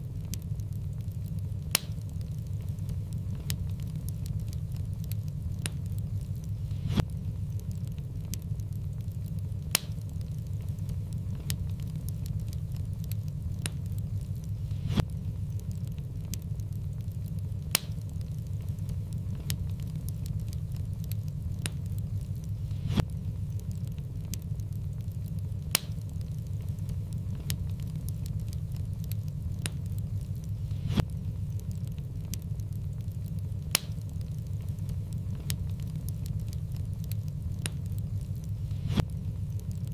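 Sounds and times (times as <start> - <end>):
fire rumbling: 0.0 - 39.9
wood fire popping: 0.0 - 39.9.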